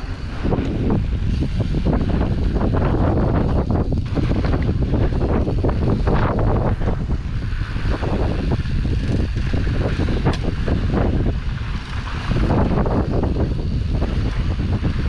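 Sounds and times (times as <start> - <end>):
bike rattles and knocks: 0.0 - 15.0
heavy rumble: 0.0 - 15.0
wind buffeting microphone: 0.0 - 15.0.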